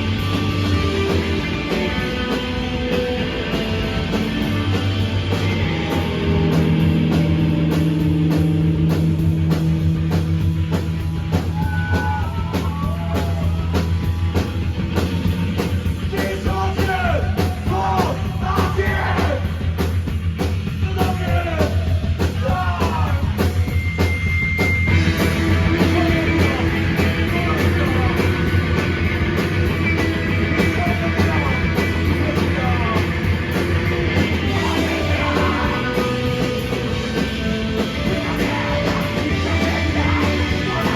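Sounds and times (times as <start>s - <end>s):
distorted guitar: 0.0s - 40.9s
fast steady drumming: 0.0s - 40.9s
sustained bass: 0.0s - 40.9s.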